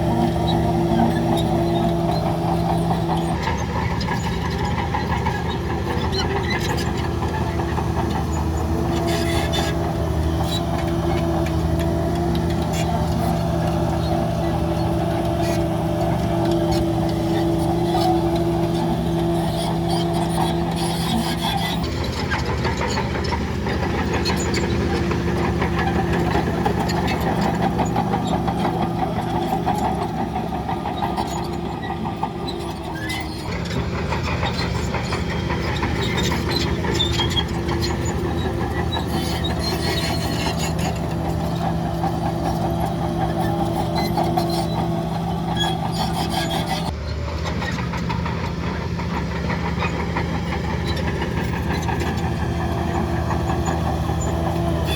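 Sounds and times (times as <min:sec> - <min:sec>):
heavy diesel engine clattering: 0:00.0 - 0:54.9.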